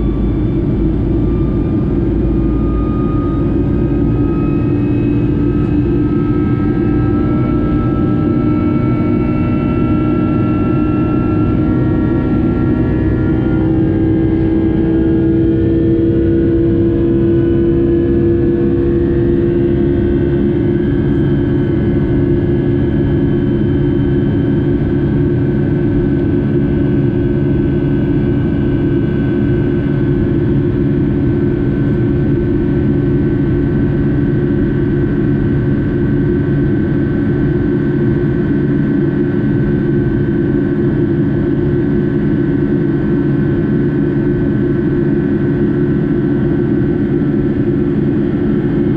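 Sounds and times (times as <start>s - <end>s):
jet engines droning in cabin: 0.0s - 48.9s.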